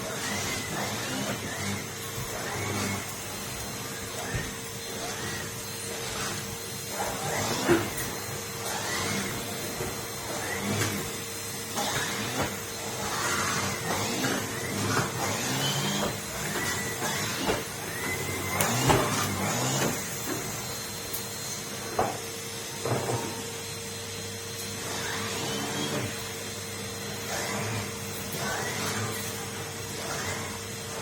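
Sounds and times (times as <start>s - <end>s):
vacuum cleaner humming: 0.0s - 31.0s.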